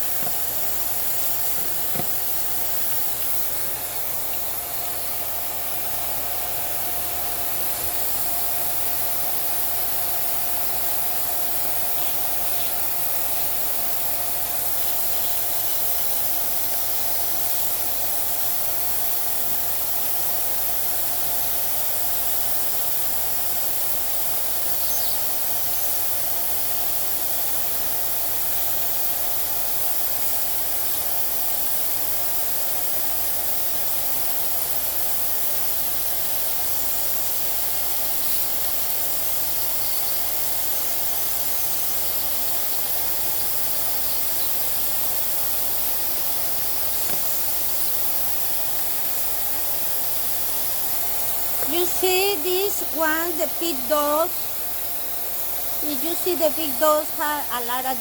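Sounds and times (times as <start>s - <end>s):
small vacuum cleaner running: 0.0s - 58.0s.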